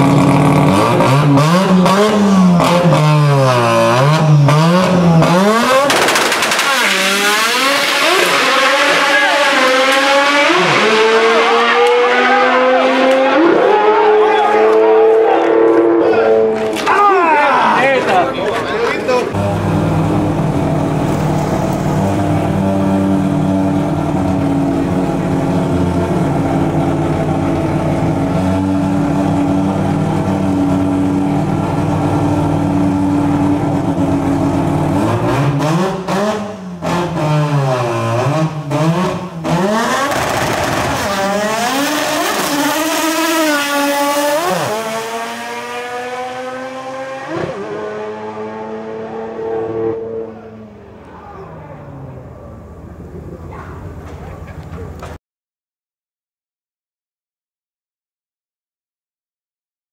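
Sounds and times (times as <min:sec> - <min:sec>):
drag car engine revving: 0:00.0 - 0:16.9, 0:19.1 - 0:55.1.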